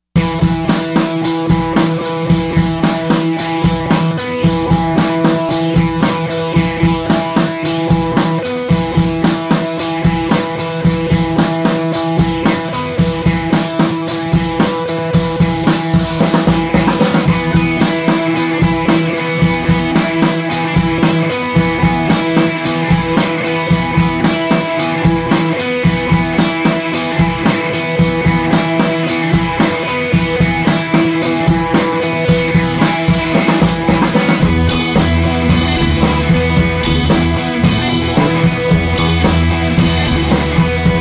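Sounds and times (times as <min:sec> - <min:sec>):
drum kit beat: 0:00.1 - 0:41.0
guitar: 0:00.2 - 0:41.0.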